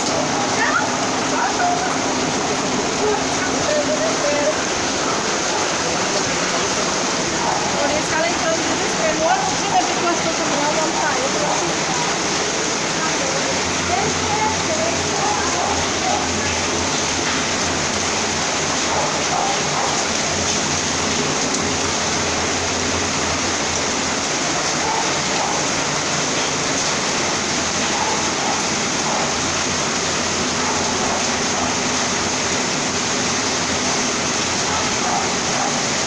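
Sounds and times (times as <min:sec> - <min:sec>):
heavy rain falling: 0:00.0 - 0:36.0
water running in a street: 0:00.0 - 0:36.0.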